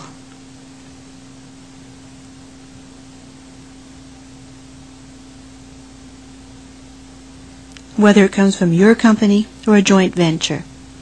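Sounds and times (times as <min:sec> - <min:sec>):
low hum tone: 0:00.0 - 0:11.0.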